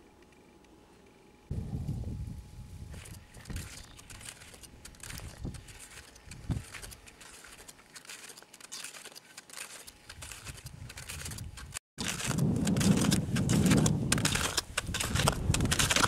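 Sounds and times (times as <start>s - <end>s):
snowshoe footsteps crunching snow: 2.9s - 16.0s.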